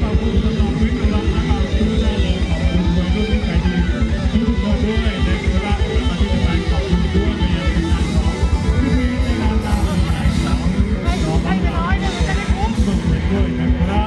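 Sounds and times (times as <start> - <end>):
live band dance music over pa: 0.0 - 14.0.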